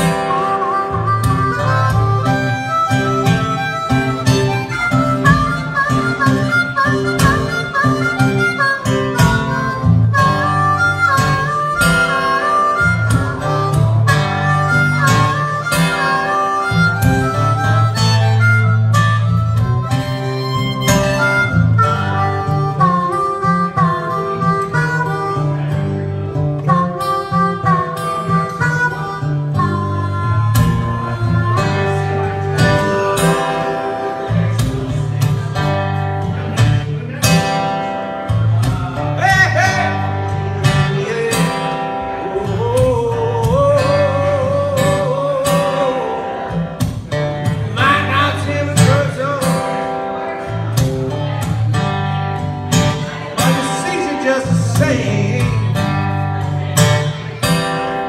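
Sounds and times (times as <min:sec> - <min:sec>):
blues harmonica solo: 0:00.0 - 0:58.0
strummed acoustic guitar: 0:00.0 - 0:58.0.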